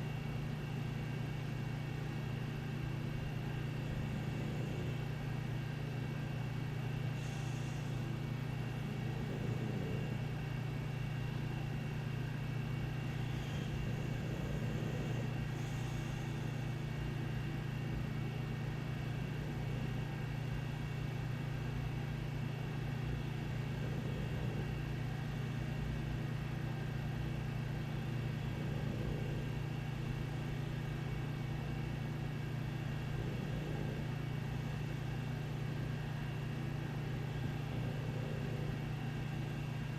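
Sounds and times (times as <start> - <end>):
low mechanical appliance hum: 0.0 - 39.9.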